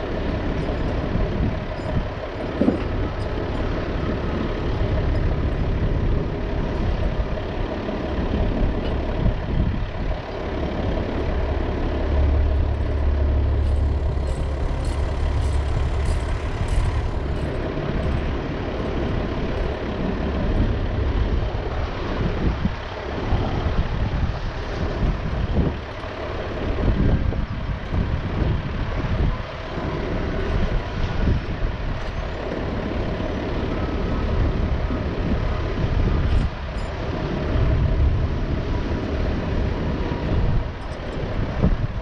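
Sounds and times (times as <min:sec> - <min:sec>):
diesel truck engine idling: 0:00.0 - 0:42.0
low rumbles: 0:00.0 - 0:42.0.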